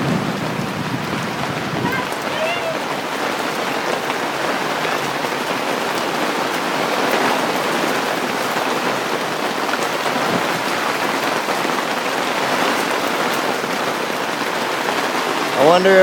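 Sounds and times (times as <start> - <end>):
hailstones ticking: 0.0 - 16.0
hard rain patter: 0.0 - 16.0.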